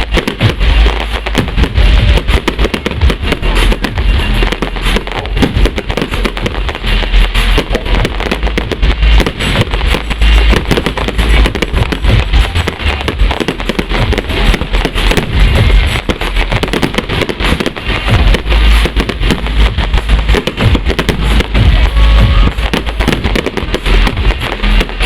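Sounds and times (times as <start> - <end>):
fireworks cracks and pops: 0.0 - 25.0
fireworks deep booms: 0.0 - 25.0.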